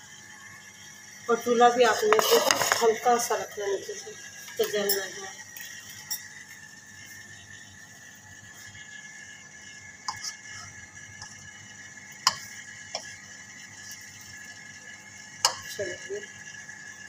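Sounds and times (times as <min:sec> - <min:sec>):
bread sizzling in pan: 0:00.0 - 0:17.0.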